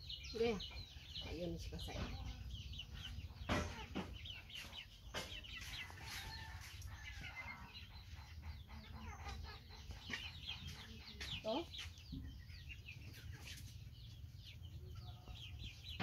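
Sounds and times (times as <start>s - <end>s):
chickens clucking and peeping: 0.0s - 16.0s.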